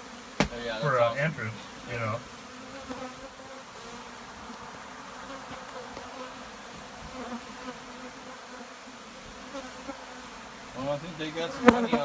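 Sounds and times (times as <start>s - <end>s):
bees buzzing around hive: 0.0s - 12.0s.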